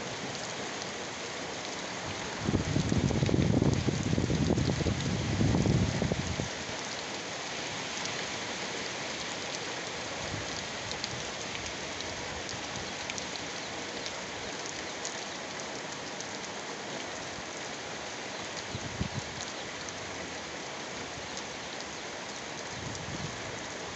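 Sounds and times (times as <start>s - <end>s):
heavy rain falling: 0.0s - 23.9s
raindrops ticking on surfaces: 0.0s - 23.9s.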